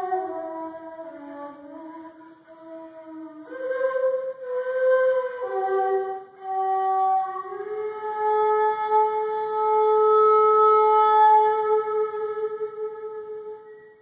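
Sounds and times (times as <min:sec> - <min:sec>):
flute playing slow melody: 0:00.0 - 0:14.0.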